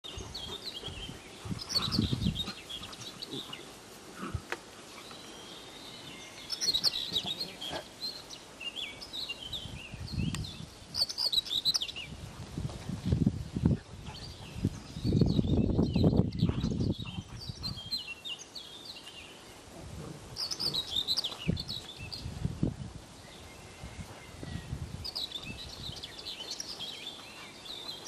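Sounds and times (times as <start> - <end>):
small birds chirping: 0.0 - 12.2, 13.0 - 19.7, 20.3 - 22.4, 23.1 - 28.0.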